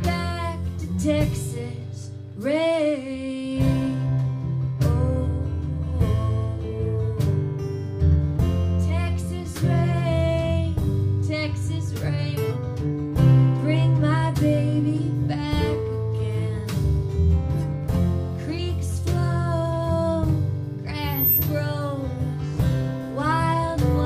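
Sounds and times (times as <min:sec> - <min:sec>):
acoustic guitars playing folk song: 0:03.5 - 0:24.0.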